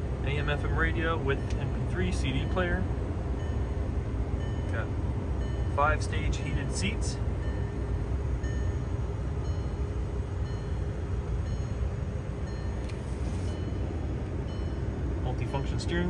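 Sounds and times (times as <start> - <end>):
car engine idling in cabin: 0.0 - 16.0.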